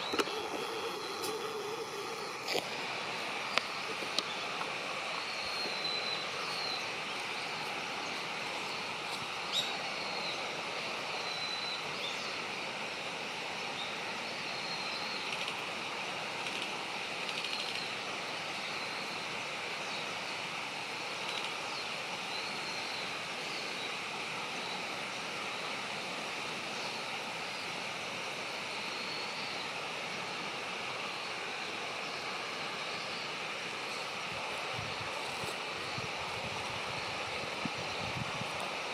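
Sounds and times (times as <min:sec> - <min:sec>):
steady outdoor hiss: 0:00.0 - 0:38.9.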